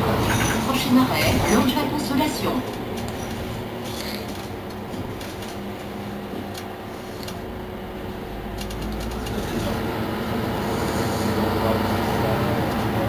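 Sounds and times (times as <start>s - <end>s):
bus engine hum: 0.0s - 13.0s.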